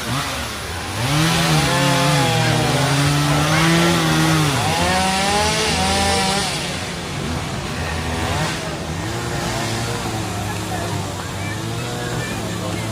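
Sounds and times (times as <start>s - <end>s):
chainsaw revving and cutting: 0.0s - 12.9s.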